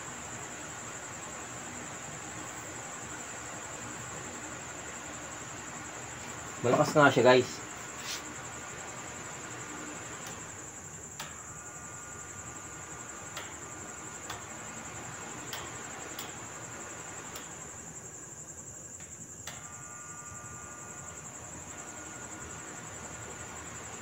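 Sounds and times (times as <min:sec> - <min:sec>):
electric fan air rush: 0:00.0 - 0:24.0.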